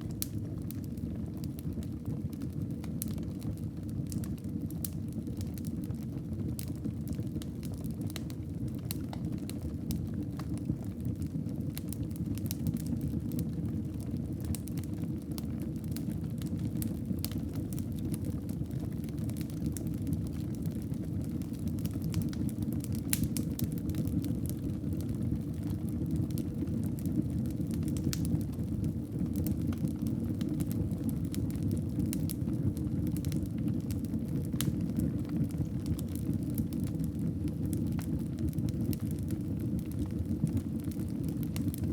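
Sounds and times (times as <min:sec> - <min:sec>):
burning wood crackling and popping: 0:00.0 - 0:41.9
low rumble of flames: 0:00.0 - 0:41.9.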